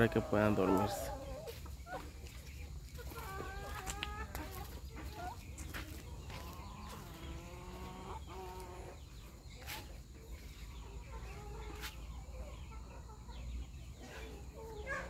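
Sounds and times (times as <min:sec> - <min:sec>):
chickens clucking softly: 0:00.0 - 0:15.0.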